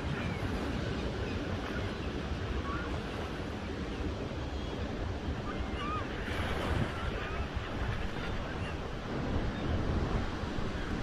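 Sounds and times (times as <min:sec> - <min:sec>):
ocean surf on beach: 0:00.0 - 0:11.0.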